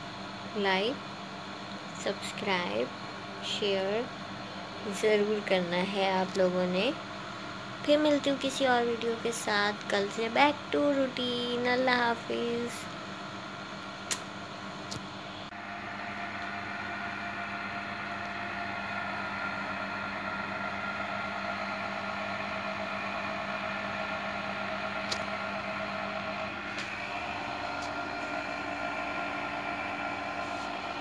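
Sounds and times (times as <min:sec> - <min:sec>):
electric machine humming: 0:00.0 - 0:31.0.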